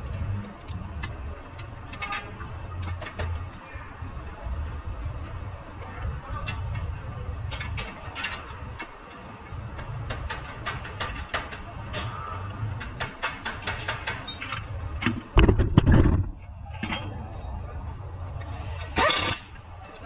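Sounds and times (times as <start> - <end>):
low workshop rumble: 0.0 - 20.0.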